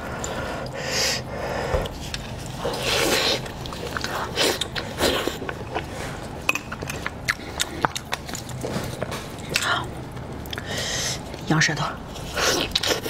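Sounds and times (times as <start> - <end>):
close-up chewing with wet smacks: 1.8 - 13.0.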